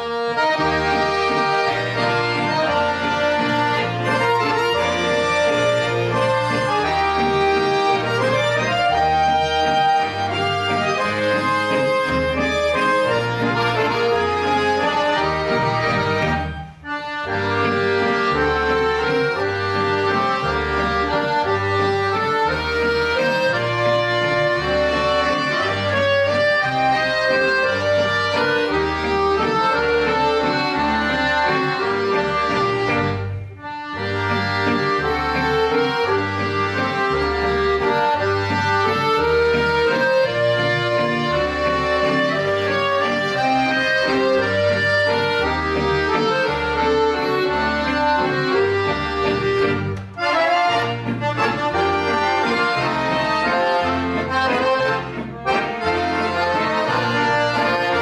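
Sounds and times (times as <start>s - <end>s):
accordion ensemble playing: 0.0s - 58.0s
steady bass line: 0.0s - 58.0s.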